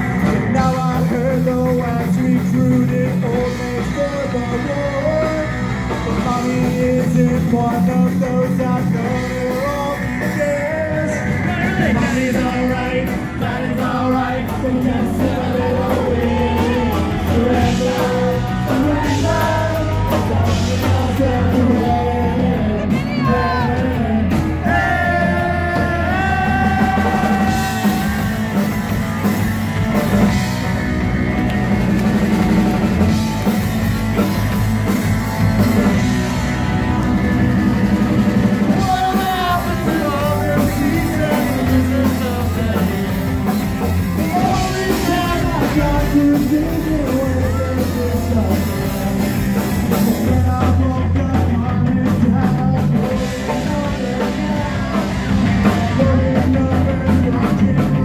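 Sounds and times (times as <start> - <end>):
person singing: 0.0 - 29.4, 38.6 - 58.0
bass guitar: 0.0 - 58.0
drum kit: 0.0 - 58.0
electric guitar: 0.0 - 58.0.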